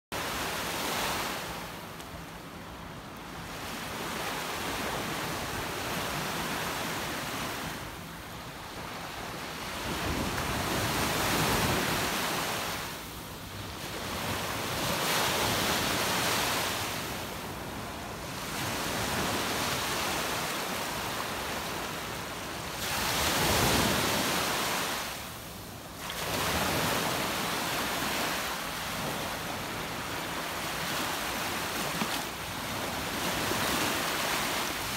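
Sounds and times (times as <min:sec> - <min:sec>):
sea waves breaking on shore: 0:00.2 - 0:02.0, 0:03.3 - 0:34.9.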